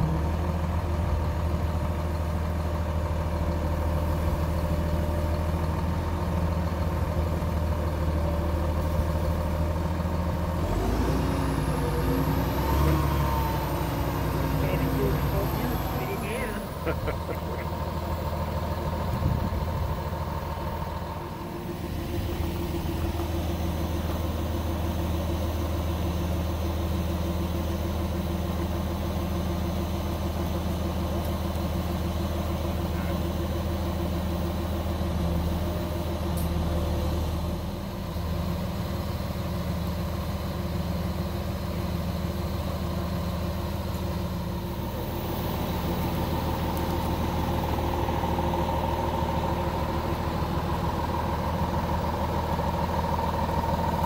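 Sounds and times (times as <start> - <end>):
crane diesel engine humming: 0.0 - 54.0.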